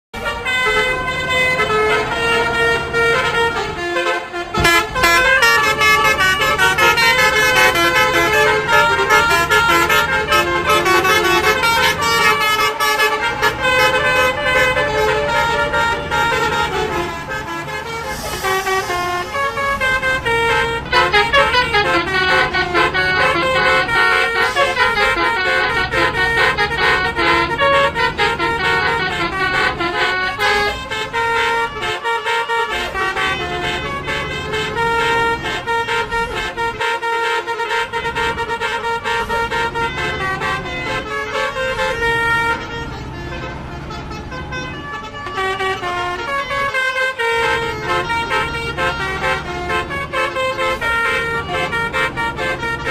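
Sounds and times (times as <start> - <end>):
musical bus horns: 0.1 - 52.9.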